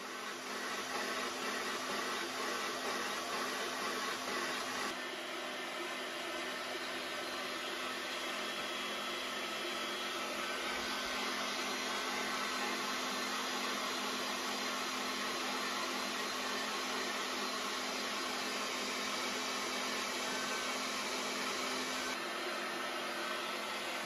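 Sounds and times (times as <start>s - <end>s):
electric machine drive whirring: 0.0s - 5.0s, 6.9s - 24.0s.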